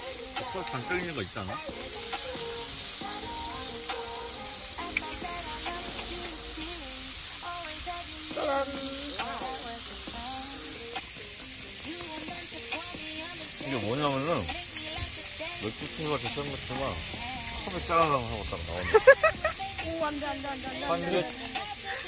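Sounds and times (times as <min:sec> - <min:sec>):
food sizzling in a pan: 0:00.0 - 0:22.0
song playing in background: 0:00.0 - 0:22.0.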